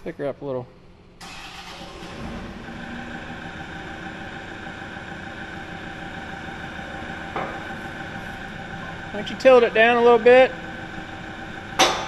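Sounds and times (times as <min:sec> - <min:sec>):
forklift engine running: 0:00.8 - 0:12.0.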